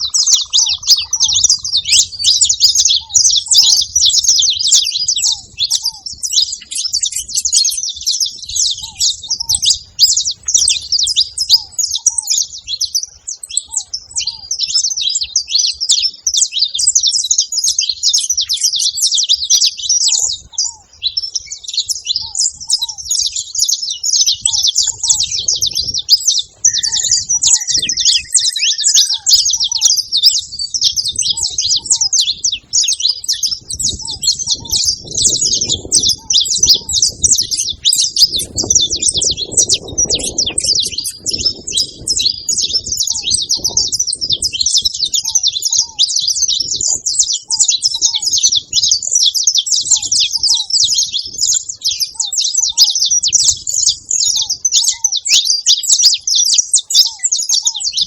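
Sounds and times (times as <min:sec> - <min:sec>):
finches chattering: 0:00.0 - 0:58.0.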